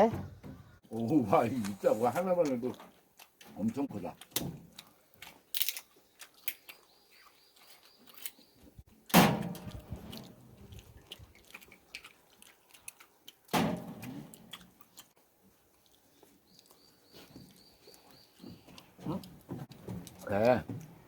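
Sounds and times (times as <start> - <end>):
person chewing: 2.4 - 21.0.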